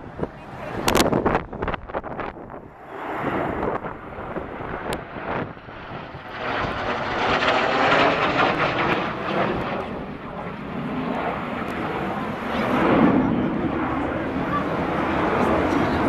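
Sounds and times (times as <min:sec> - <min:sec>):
jets flying past: 0:00.0 - 0:16.0.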